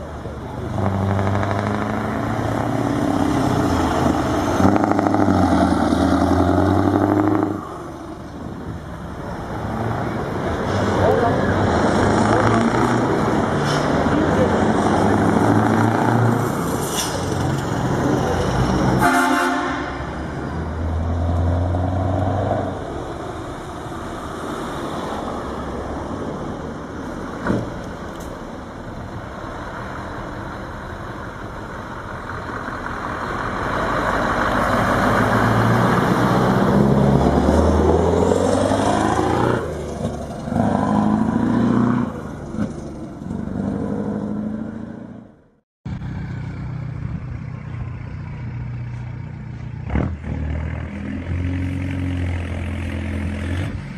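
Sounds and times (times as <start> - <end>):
diesel engines revving: 0.0 - 53.9.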